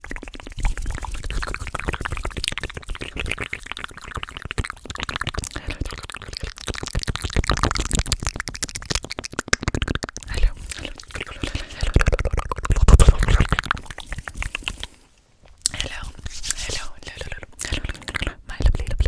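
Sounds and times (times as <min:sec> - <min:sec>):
mouth clicks pops and smacks: 0:00.0 - 0:19.0.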